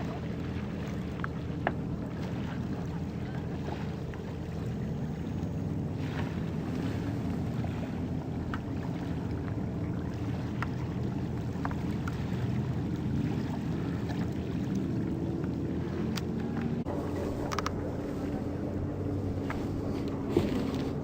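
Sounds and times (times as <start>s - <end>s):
paddle splashes and drips: 0.0s - 21.0s
rumble of water and wind: 0.0s - 21.0s.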